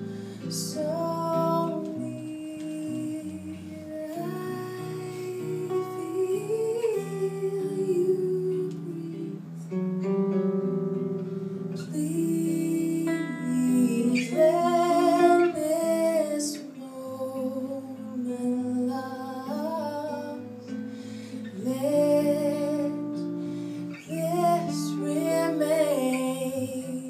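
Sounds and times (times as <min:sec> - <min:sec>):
woman singing jazz: 0:00.0 - 0:09.7, 0:11.7 - 0:27.0
amplified jazz guitar: 0:00.0 - 0:27.0.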